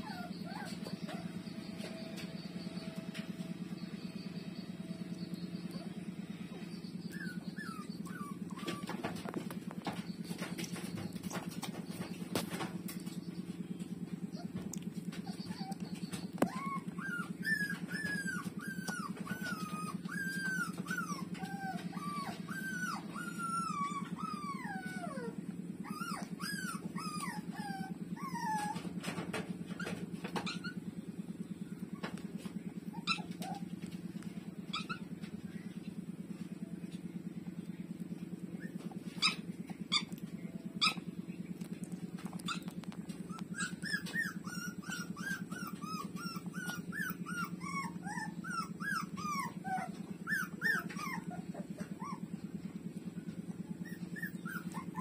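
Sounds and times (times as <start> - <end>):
puppies whimpering: 0.0 - 55.0
steady low hum: 0.0 - 55.0.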